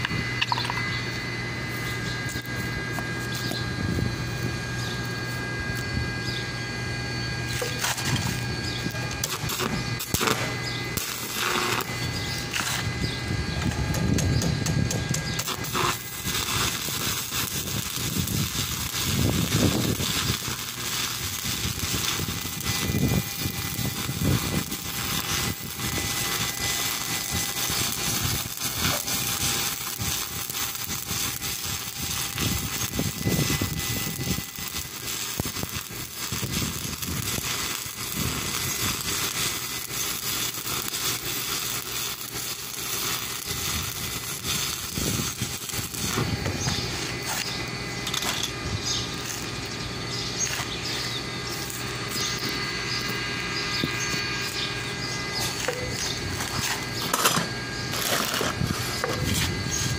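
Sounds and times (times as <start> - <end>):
welding arc crackling and hissing: 0.0 - 59.9.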